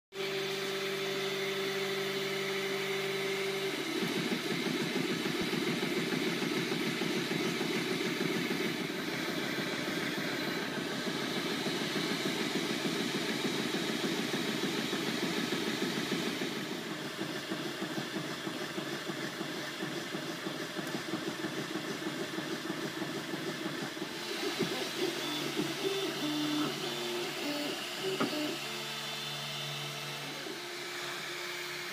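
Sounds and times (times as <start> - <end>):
stepper motors buzzing: 0.2 - 31.9.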